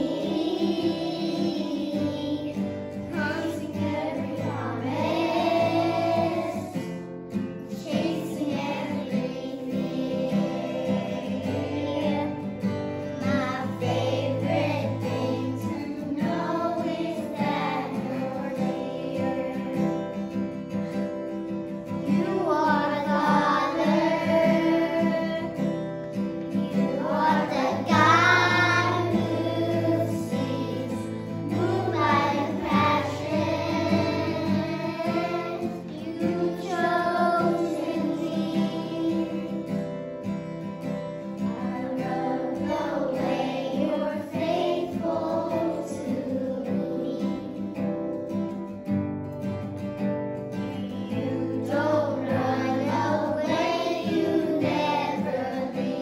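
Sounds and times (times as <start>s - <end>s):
children's choir singing: 0.0s - 48.8s, 50.5s - 56.0s
guitar: 0.0s - 56.0s.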